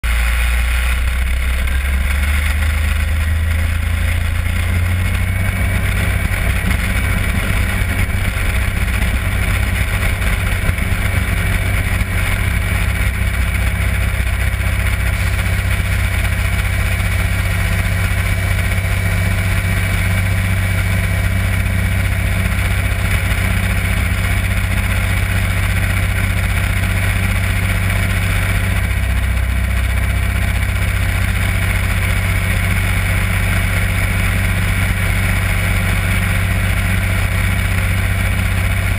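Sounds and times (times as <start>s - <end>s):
radial aircraft engine and propeller: 0.0s - 38.9s.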